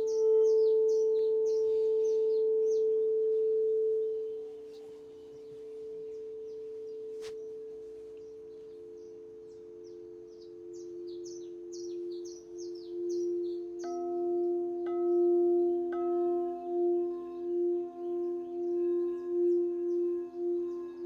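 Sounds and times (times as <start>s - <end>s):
bird chirping: 0.0s - 21.0s
singing bowls ringing: 0.0s - 21.0s.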